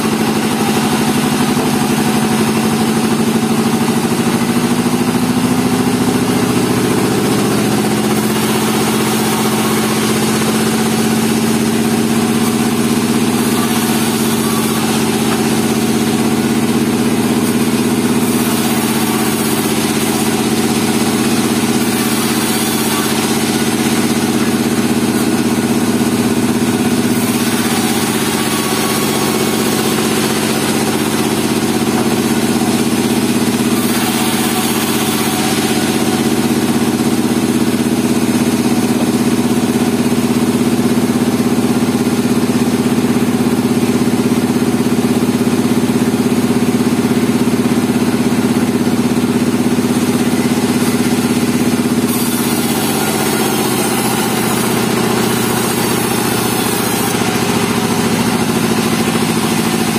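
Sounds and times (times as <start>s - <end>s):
band saw droning: 0.0s - 59.9s.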